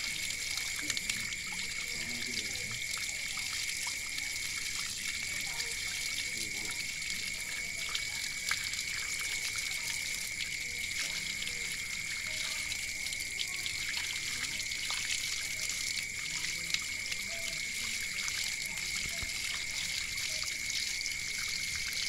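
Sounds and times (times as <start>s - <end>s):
running water splashing: 0.0s - 22.0s
water dripping: 0.0s - 22.0s.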